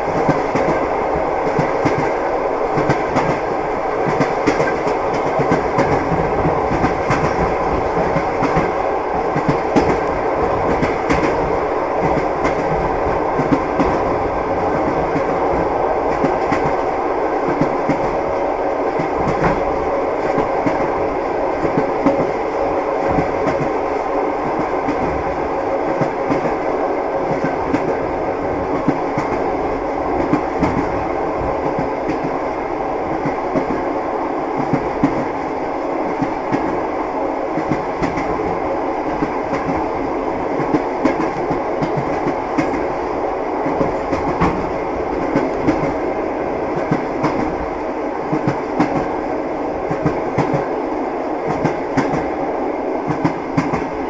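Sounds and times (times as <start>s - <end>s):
train wheels clattering on rails: 0.0s - 36.9s, 37.5s - 50.8s, 51.4s - 52.4s, 53.0s - 54.0s.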